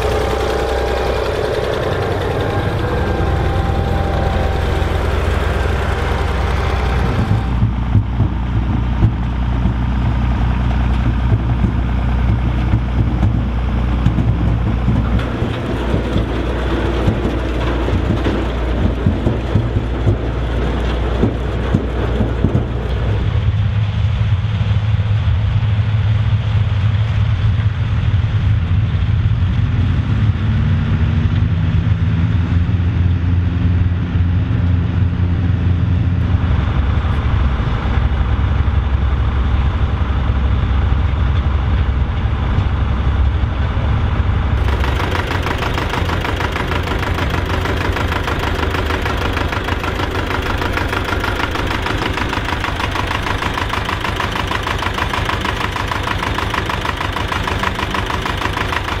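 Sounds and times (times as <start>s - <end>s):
old tractor engine idling: 0.0s - 24.8s, 36.0s - 59.0s
harvester machinery running: 0.0s - 59.0s
tractor engine droning: 0.0s - 59.0s.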